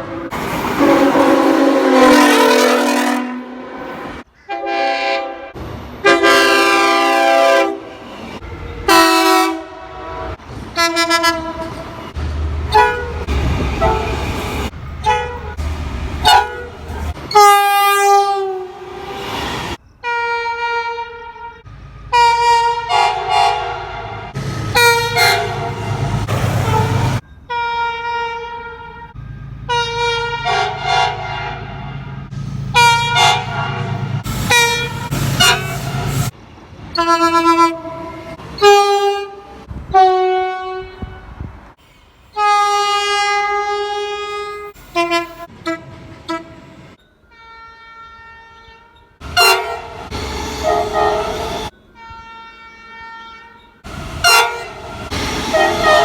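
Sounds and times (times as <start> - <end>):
train horns blowing: 0.0 - 12.1, 12.7 - 19.4, 20.0 - 36.3, 36.9 - 41.6, 42.3 - 56.0
passing train rumble: 0.0 - 47.5, 48.3 - 56.0.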